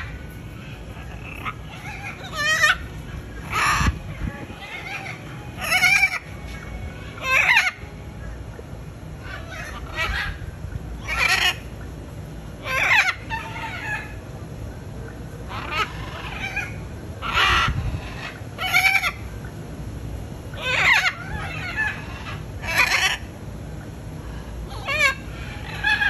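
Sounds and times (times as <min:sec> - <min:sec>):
macaws squawking: 0:00.0 - 0:08.4, 0:09.2 - 0:11.9, 0:12.6 - 0:14.3, 0:15.1 - 0:19.6, 0:20.5 - 0:23.3, 0:24.6 - 0:26.0.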